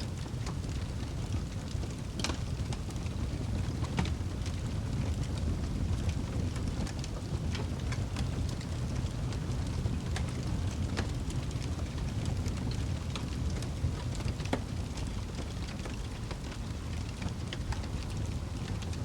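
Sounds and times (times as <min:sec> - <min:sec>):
burning wood crackling and popping: 0:00.0 - 0:19.0
fire rumbling in a fireplace: 0:00.0 - 0:19.0.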